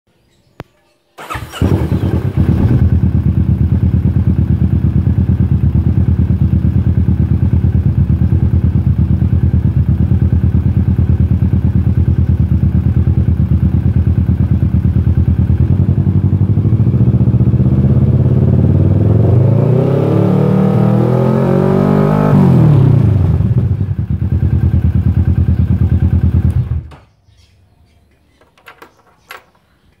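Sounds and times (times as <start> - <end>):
motorcycle engine idling and revving: 1.2 - 27.1.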